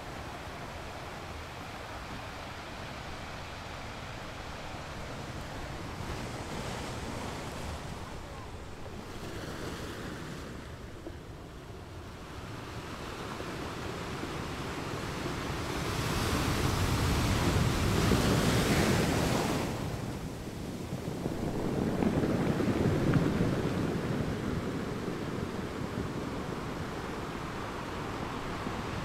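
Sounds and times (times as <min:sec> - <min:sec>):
sea waves washing on shore: 0:00.0 - 0:29.0.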